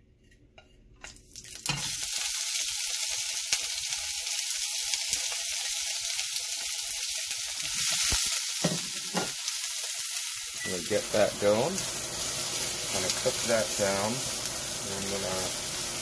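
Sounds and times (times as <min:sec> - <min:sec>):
cabbage sizzling in hot oil: 0:01.3 - 0:16.0.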